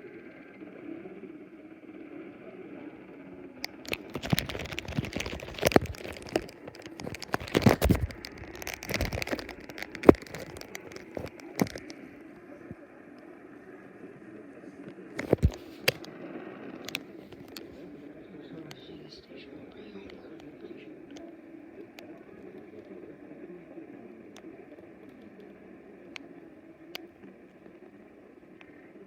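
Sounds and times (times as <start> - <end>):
faint muffled radio broadcast: 0.0 - 29.0
radio static crackles and pops: 0.0 - 29.0.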